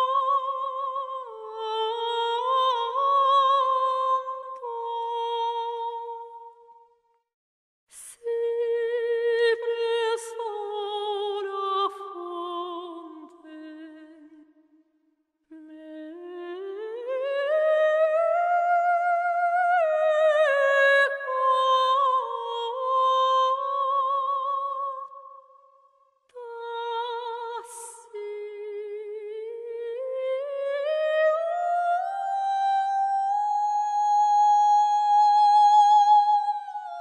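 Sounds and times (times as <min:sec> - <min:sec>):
high wordless voice singing: 0:00.0 - 0:06.8, 0:08.0 - 0:14.6, 0:15.5 - 0:25.4, 0:26.3 - 0:37.0.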